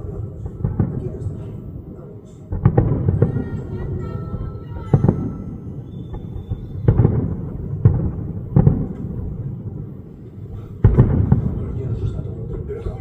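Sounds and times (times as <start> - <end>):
fireworks bangs: 0.0 - 13.0
low rumbling echo: 0.0 - 13.0.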